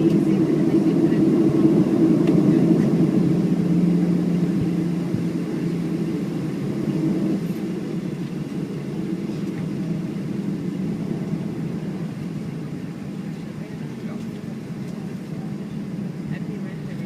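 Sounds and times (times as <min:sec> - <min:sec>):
aircraft cabin engine hum: 0:00.0 - 0:17.0.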